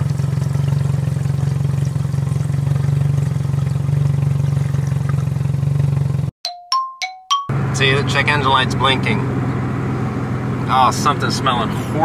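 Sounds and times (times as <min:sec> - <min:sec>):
car engine idling: 0:00.0 - 0:06.3, 0:07.5 - 0:12.0.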